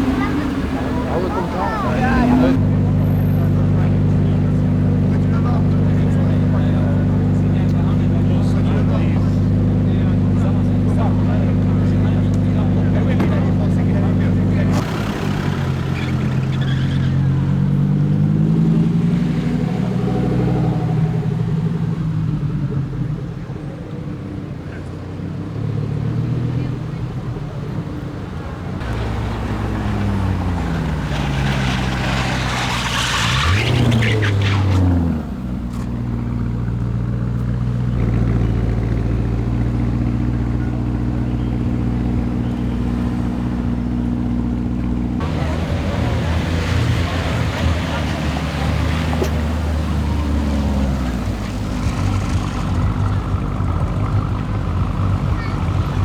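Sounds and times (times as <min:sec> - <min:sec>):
car engine at low revs: 0:00.0 - 0:56.0.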